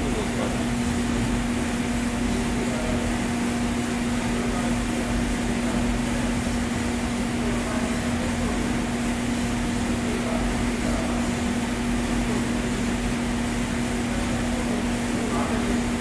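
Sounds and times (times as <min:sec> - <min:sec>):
coffee roaster motors droning: 0:00.0 - 0:16.0.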